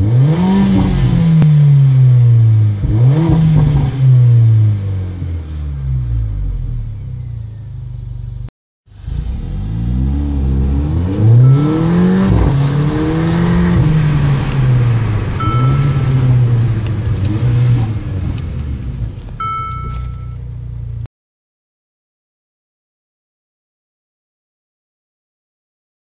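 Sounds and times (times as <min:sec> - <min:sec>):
car engine accelerating: 0:00.0 - 0:21.1.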